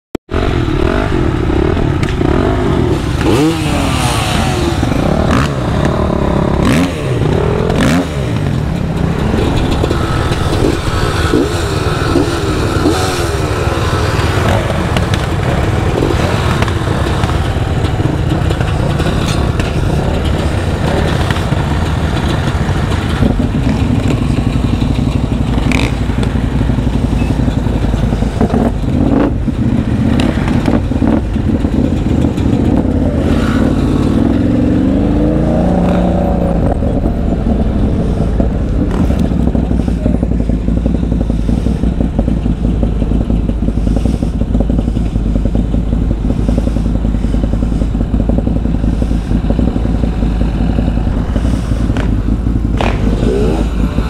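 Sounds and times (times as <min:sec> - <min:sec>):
atv engine revving: 0:00.3 - 0:54.0.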